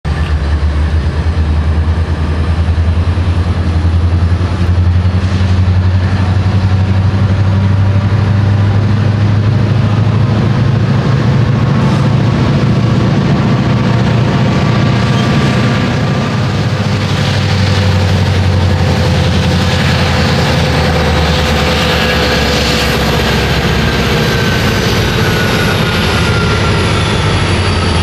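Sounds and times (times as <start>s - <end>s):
locomotive engine throb: 0.1s - 28.0s.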